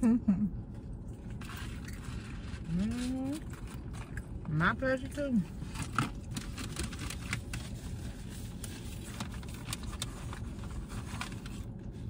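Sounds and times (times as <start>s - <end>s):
food wrappers rustling: 1.2s - 4.5s, 5.5s - 12.0s.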